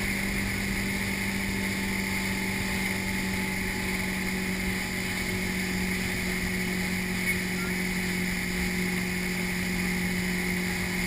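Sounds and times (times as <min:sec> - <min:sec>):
motorboat engine hum: 0:00.0 - 0:11.0
wake water rushing: 0:00.0 - 0:11.0.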